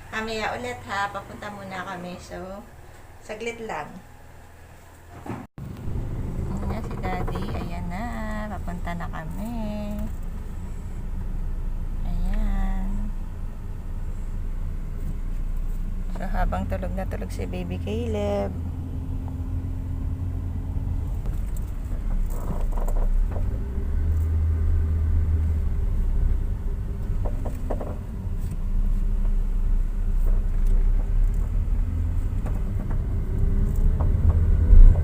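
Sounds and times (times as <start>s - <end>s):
faint hum: 0.0s - 33.8s
road and engine noise in car: 0.0s - 35.0s.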